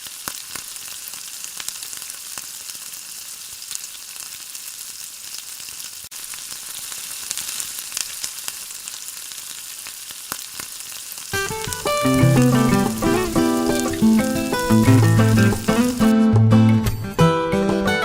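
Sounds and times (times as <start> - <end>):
oil crackling and popping: 0.0 - 16.1
prawns sizzling in hot oil: 0.0 - 16.1.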